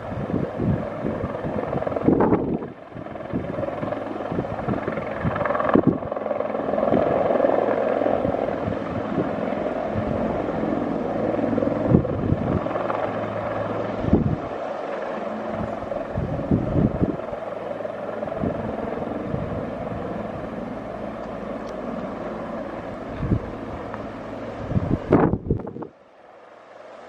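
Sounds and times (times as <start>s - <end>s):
wind buffeting microphone: 0.0s - 26.0s
helicopter turbine and rotor hum: 0.0s - 27.0s.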